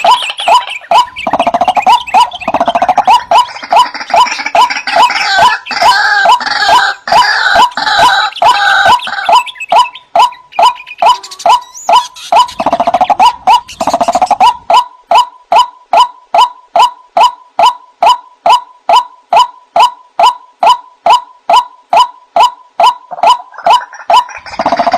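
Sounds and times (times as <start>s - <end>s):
chorus of overlapping bird calls: 0.0s - 24.9s
waterhen calling: 0.0s - 24.9s.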